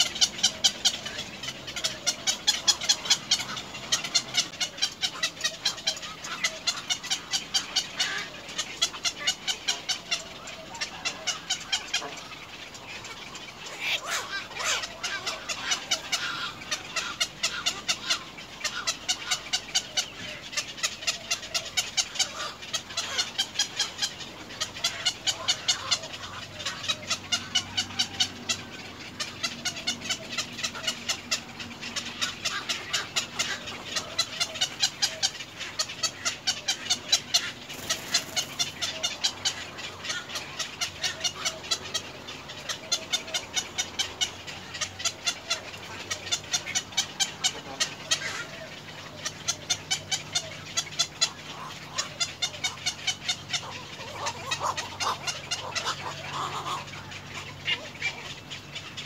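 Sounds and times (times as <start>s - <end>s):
birds calling in rapid notes: 0.0s - 59.0s.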